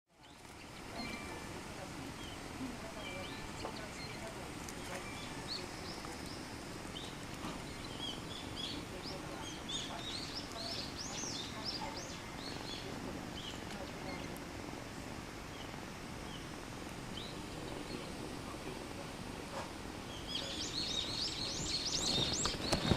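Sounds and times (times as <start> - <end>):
outdoor background hiss: 0.1 - 22.9
small birds chirping: 0.1 - 22.9.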